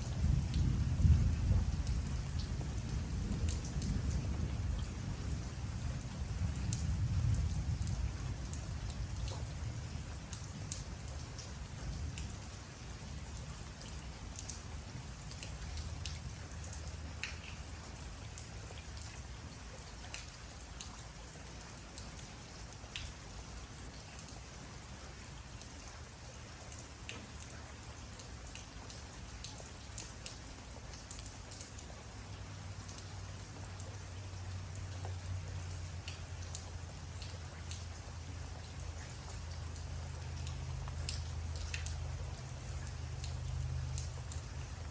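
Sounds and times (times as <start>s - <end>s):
rain pattering: 0.0s - 44.9s
raindrops ticking close by: 0.0s - 44.9s.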